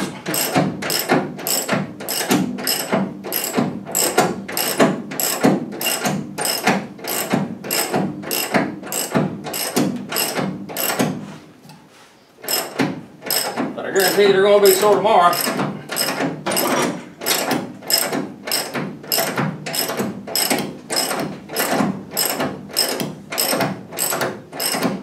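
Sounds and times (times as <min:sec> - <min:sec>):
ratchet wrench clicking: 0:00.3 - 0:11.0, 0:12.5 - 0:14.2, 0:15.3 - 0:24.9.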